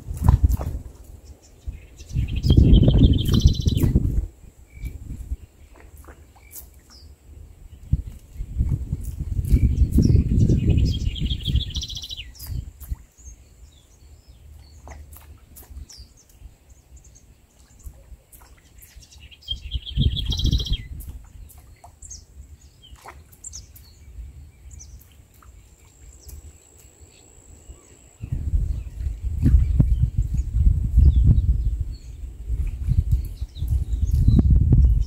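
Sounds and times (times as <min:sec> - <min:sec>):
wind buffeting microphone: 0:00.0 - 0:26.7, 0:27.8 - 0:35.0
birds singing and chirping: 0:00.2 - 0:35.0.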